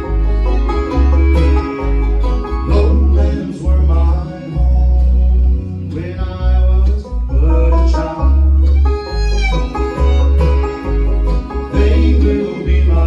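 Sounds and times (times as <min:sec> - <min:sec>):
acoustic guitar: 0:00.0 - 0:13.0
banjo: 0:00.0 - 0:13.0
fiddle: 0:00.0 - 0:13.0
pulsing bass notes: 0:00.0 - 0:13.0.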